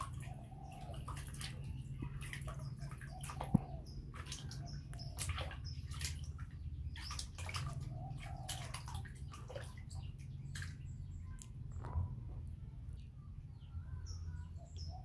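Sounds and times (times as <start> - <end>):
water splashing in a plastic basin: 0.0 - 12.2.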